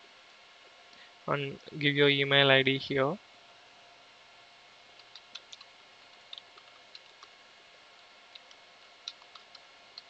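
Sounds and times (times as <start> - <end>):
low hiss: 0.0 - 10.0.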